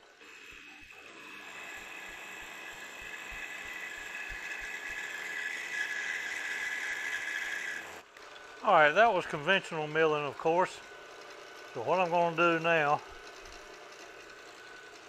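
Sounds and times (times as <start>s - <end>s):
milling machine cutting steel: 0.0s - 15.0s.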